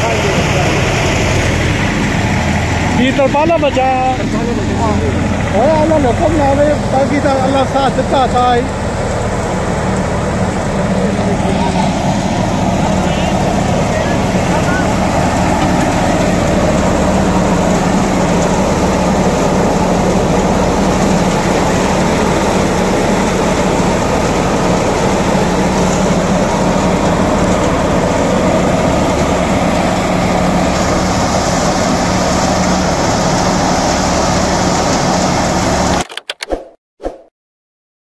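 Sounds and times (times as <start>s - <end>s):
tractor low hum: 0.0s - 36.0s
thresher machine drone: 0.0s - 36.3s.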